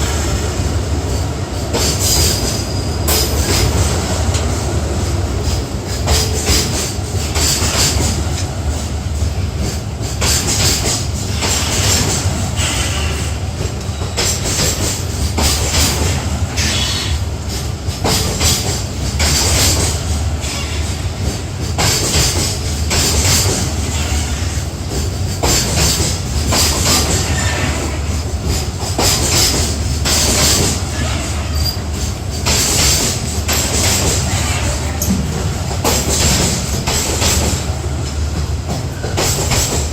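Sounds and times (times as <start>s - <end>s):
freight train rumbling: 0.0s - 39.9s
wheel clatter on rail joints: 0.0s - 39.9s.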